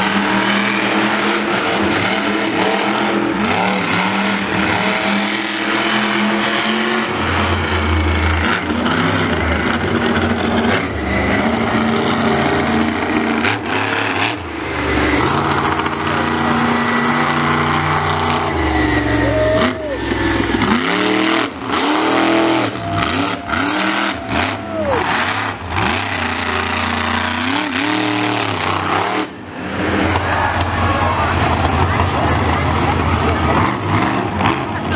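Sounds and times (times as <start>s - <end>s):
loud vehicle engine revving: 0.0s - 34.9s.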